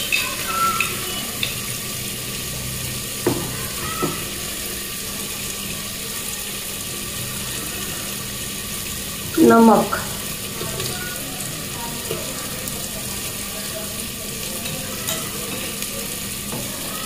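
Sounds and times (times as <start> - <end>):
liquid simmering with bubbling hiss: 0.0 - 17.0.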